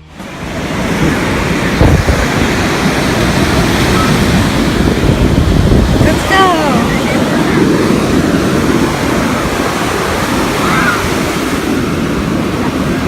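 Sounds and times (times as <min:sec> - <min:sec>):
ocean surf washing: 0:00.0 - 0:13.0
wind buffeting microphone: 0:00.0 - 0:13.0.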